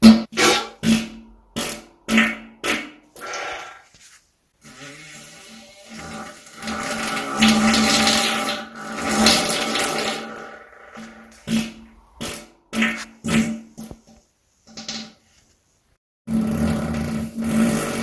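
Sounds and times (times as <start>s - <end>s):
person farting: 0.0s - 4.0s, 4.6s - 13.6s, 16.3s - 18.0s.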